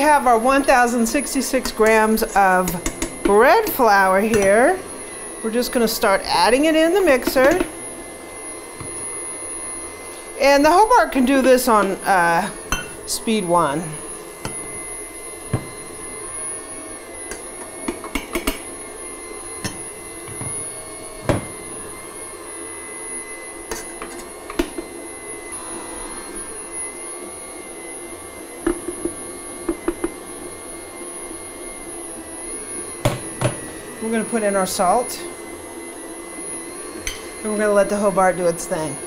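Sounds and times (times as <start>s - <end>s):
stand mixer motor running: 0.0s - 39.0s.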